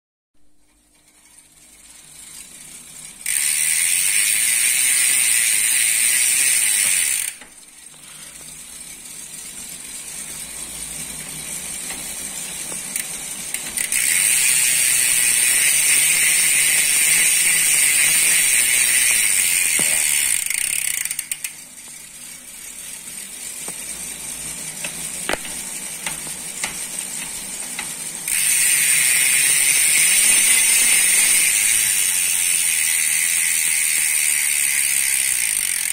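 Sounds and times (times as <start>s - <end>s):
bicycle hub freewheel buzzing: 0.5s - 35.9s.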